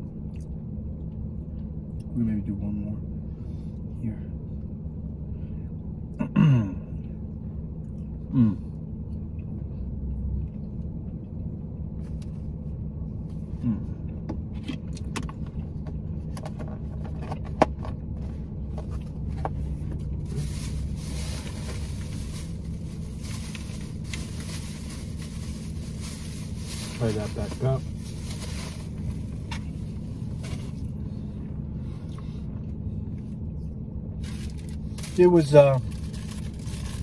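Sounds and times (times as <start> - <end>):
low hum inside a car: 0.0 - 37.0.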